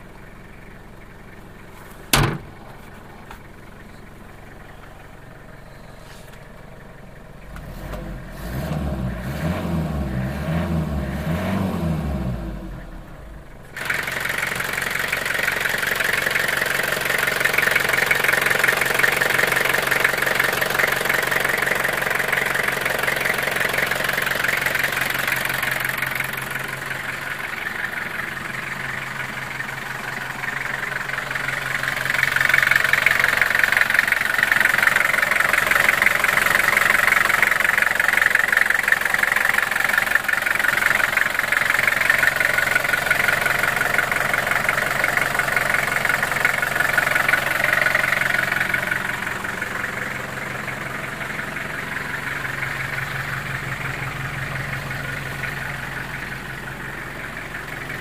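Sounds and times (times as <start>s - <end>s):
truck engine idling with clatter: 0.0s - 11.4s, 12.7s - 58.0s.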